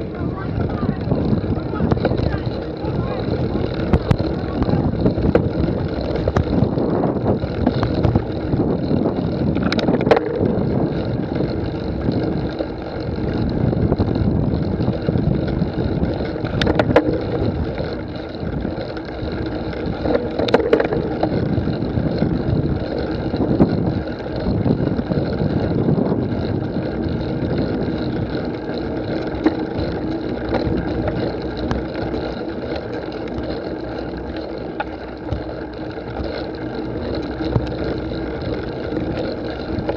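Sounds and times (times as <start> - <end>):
steady outdoor rumble: 0.0 - 39.9
wind on microphone: 0.0 - 39.9.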